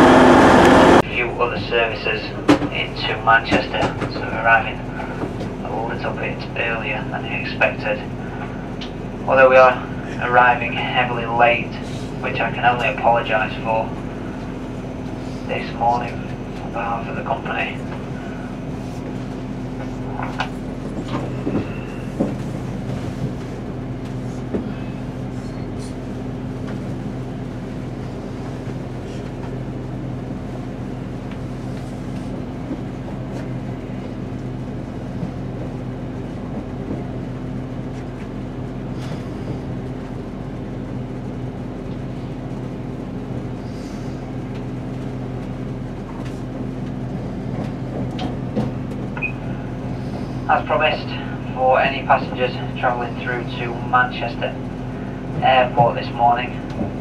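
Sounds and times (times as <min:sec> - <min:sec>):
train interior hum and rumble: 0:00.0 - 0:57.0.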